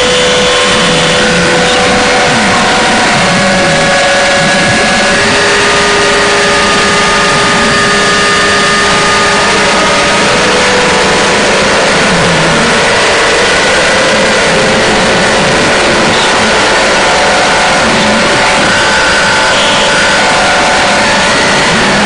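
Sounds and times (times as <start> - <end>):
harsh noise drone music: 0.0 - 22.0.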